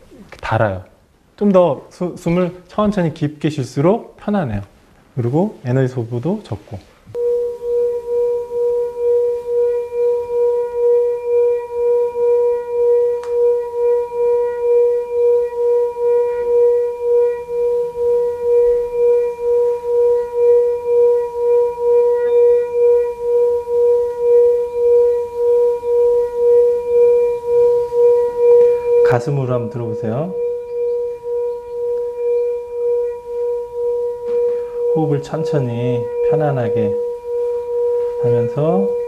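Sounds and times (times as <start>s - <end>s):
singing bowl humming: 7.1s - 39.0s.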